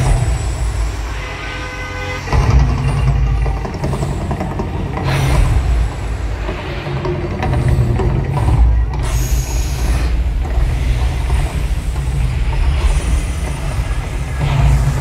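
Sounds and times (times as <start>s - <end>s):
deep steady rumble: 0.0s - 1.2s, 2.2s - 15.0s.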